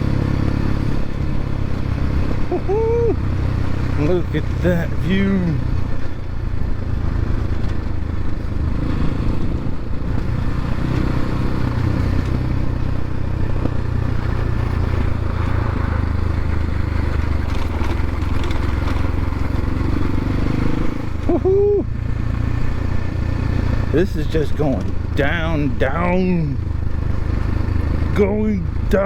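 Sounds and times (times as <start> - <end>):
dirt bike engine running: 0.0 - 29.0.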